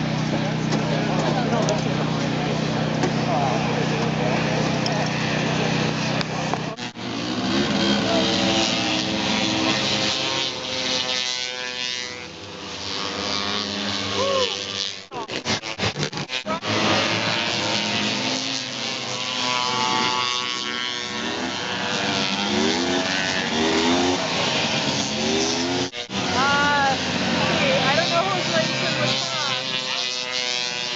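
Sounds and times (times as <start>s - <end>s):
snowmobiles revving and passing: 0.0s - 30.9s.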